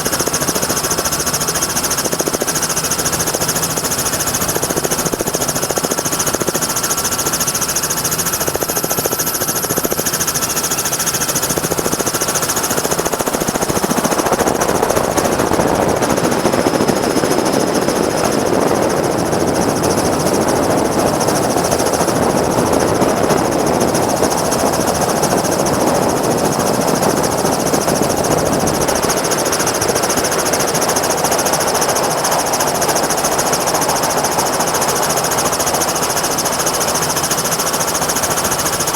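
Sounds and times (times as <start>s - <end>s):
helicopter rotor and engine pulsing: 0.0s - 38.9s.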